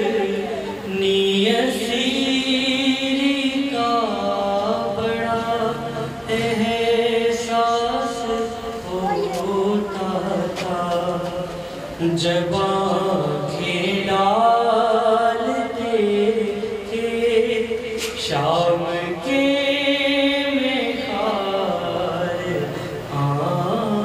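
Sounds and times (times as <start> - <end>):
man chanting a lament: 0.0 - 24.0.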